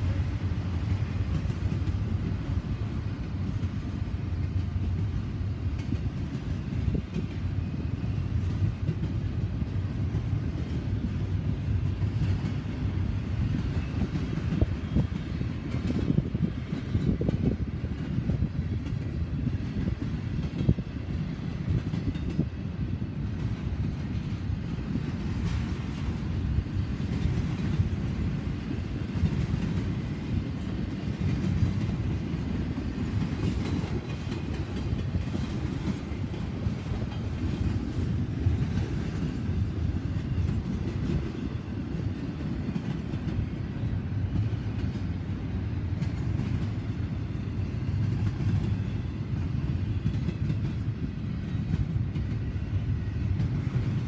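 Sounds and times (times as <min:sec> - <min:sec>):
freight train wheels rumbling on rail: 0:00.0 - 0:54.0.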